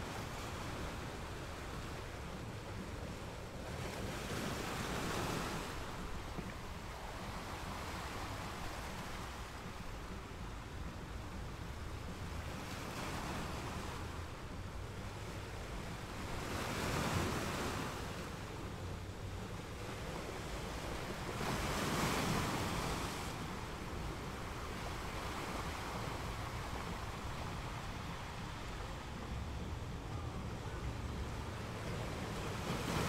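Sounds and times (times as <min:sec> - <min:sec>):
low rush of surf: 0:00.0 - 0:33.0
ocean waves breaking: 0:00.0 - 0:33.0.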